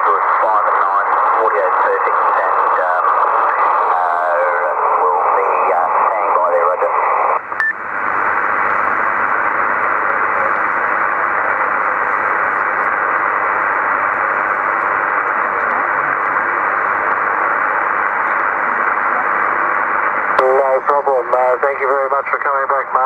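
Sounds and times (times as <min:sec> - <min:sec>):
radio receiver hiss: 0:00.0 - 0:23.0.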